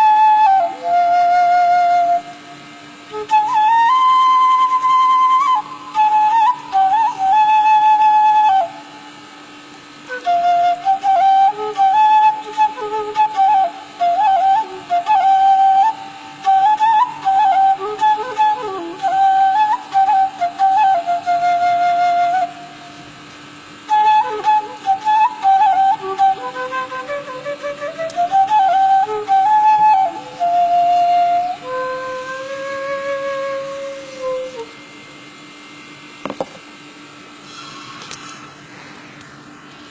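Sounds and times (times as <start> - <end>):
bamboo flute melody: 0.0 - 35.2
faint steady hum: 0.0 - 39.9.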